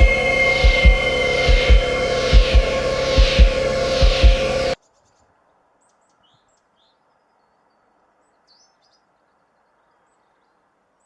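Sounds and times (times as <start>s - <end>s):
birds chirping: 0.0s - 10.6s
low outdoor background: 0.0s - 11.0s.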